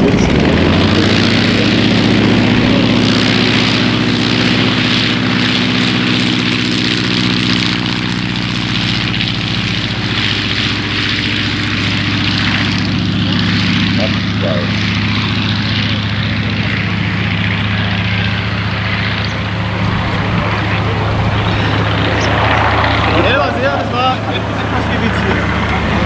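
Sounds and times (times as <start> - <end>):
model aircraft engine running: 0.0 - 26.0.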